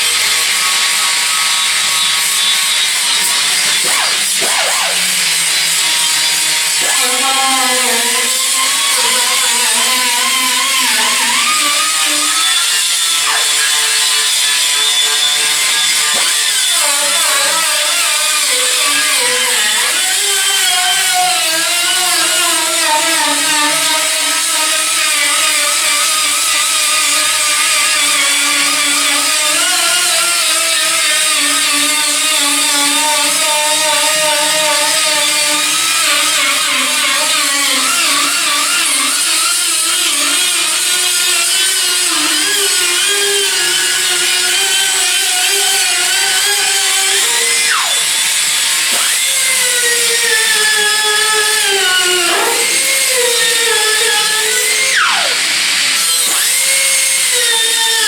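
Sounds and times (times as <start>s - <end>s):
power tool whining: 0.0s - 58.0s.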